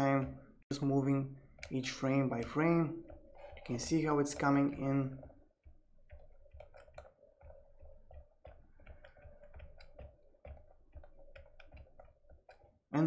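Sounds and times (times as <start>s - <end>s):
computer keys clicking: 1.4s - 12.7s.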